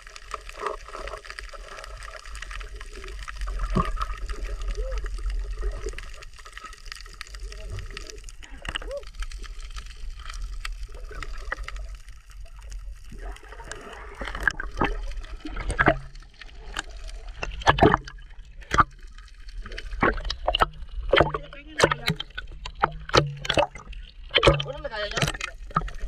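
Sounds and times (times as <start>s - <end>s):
water sloshing and splashing: 0.0s - 26.0s.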